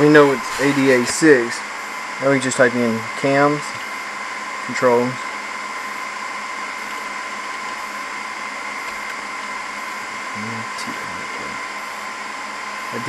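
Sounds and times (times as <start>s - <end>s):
computer cooling fans whirring: 0.0s - 13.0s
constant high whine: 0.0s - 13.0s.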